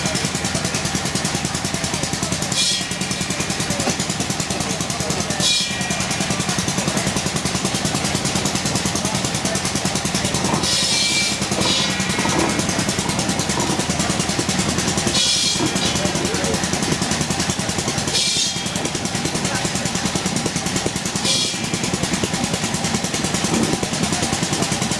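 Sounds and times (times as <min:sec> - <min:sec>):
steam traction engine running: 0:00.0 - 0:24.9
voices: 0:00.0 - 0:24.9
steam hissing bursts: 0:02.1 - 0:04.4, 0:05.0 - 0:23.6.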